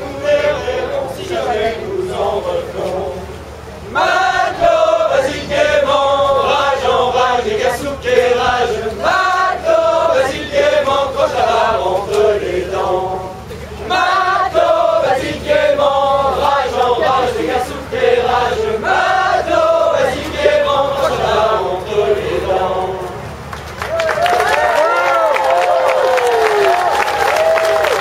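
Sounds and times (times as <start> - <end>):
male chorus chanting song: 0.0 - 23.2.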